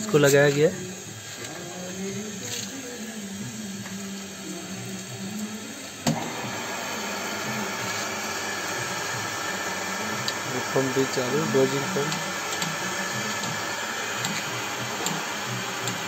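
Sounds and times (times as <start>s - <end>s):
electric pump motor humming: 0.0s - 16.0s.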